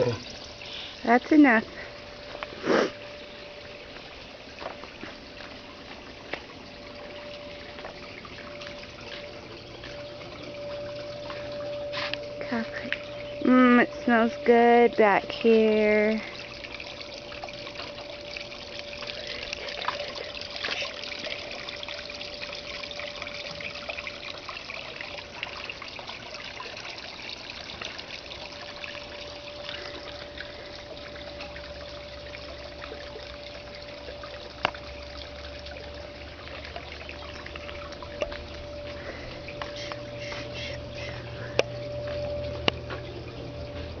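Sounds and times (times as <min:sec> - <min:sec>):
low hum: 0:00.0 - 0:44.0
water trickling over rocks: 0:00.0 - 0:44.0.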